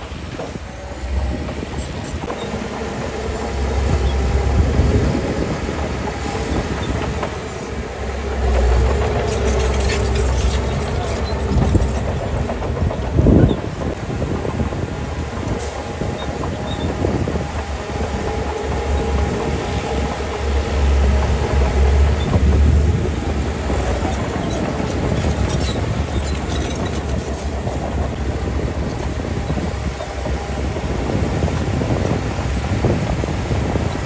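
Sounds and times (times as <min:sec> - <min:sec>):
heavy diesel engine rumbling: 0:00.0 - 0:34.0.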